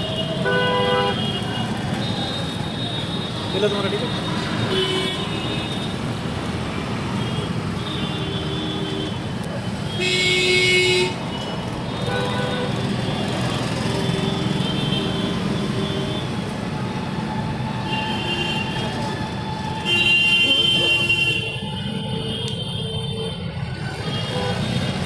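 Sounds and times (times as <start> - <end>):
vehicle horns: 0.0 - 6.1, 6.8 - 16.6, 17.3 - 25.0
road traffic rumble: 0.0 - 25.0.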